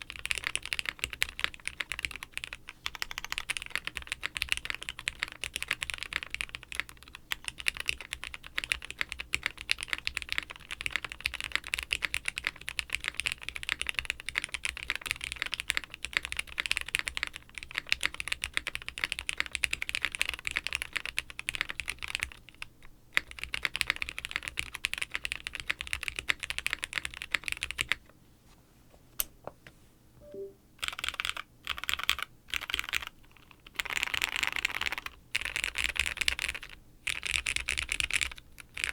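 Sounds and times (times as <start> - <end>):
typing on mechanical keyboard: 0.0 - 28.0, 30.8 - 38.9.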